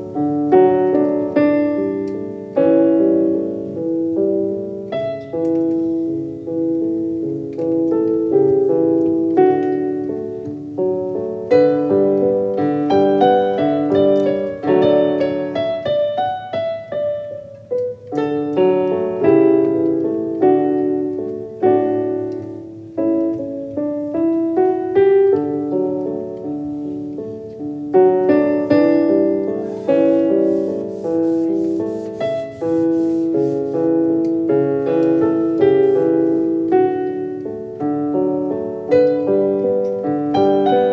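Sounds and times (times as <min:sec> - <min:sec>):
gentle piano music: 0:00.0 - 0:40.9.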